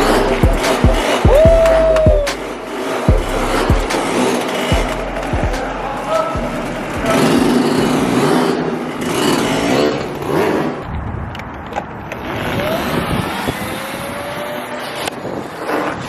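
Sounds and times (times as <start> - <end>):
dirt bike engine revving: 0.0 - 11.0, 12.2 - 16.0.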